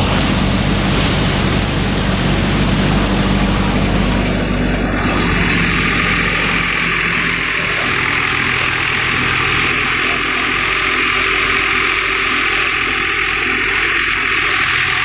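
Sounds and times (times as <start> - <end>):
low hum: 0.0 - 15.0
thresher mechanical drone: 0.0 - 15.0.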